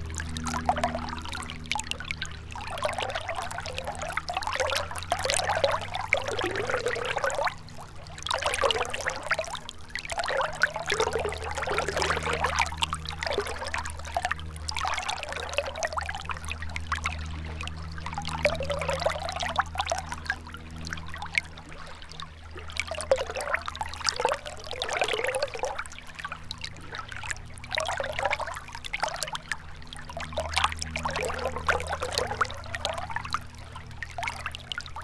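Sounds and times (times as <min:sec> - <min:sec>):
low steady hum: 0:00.0 - 0:35.0
river running and trickling: 0:00.0 - 0:35.0.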